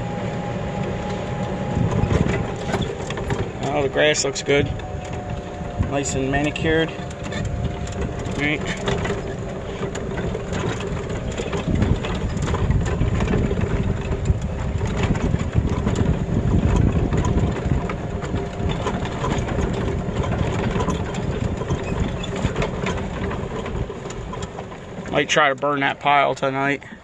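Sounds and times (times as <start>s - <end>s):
engine running with low rumble: 0.0s - 27.0s
clicks and rattles: 1.0s - 26.5s.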